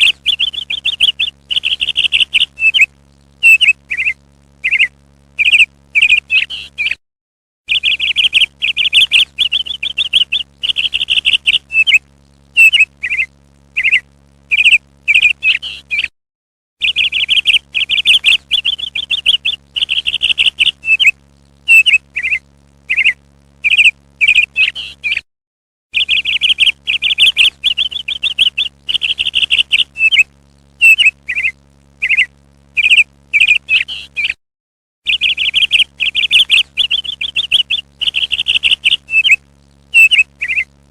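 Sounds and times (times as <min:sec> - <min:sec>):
parrot chirps and trills: 0:00.0 - 0:07.0, 0:07.7 - 0:12.0, 0:12.6 - 0:16.1, 0:16.8 - 0:25.2, 0:26.0 - 0:34.4, 0:35.1 - 0:40.7.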